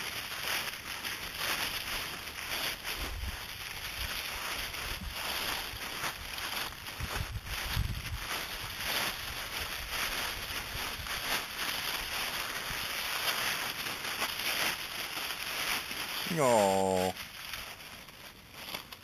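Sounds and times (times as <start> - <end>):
dry leaves rustling and crackling: 0.0 - 19.0.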